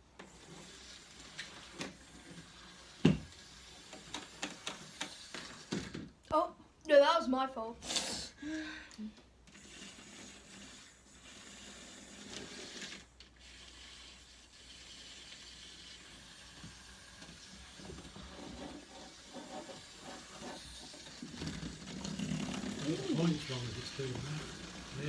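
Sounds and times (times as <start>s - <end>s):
toy train motor whirring: 0.1s - 6.1s, 9.5s - 25.0s.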